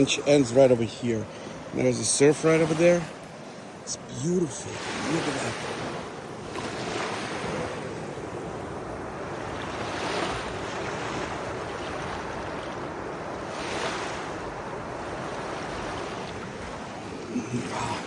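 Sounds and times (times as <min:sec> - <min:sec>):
surf breaking on beach: 0:00.0 - 0:18.0.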